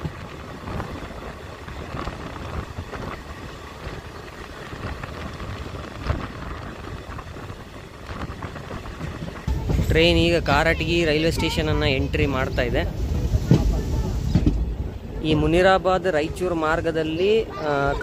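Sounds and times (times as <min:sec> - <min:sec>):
rushing wind: 0:00.0 - 0:18.0
train wheels rumbling on rails: 0:00.0 - 0:18.0.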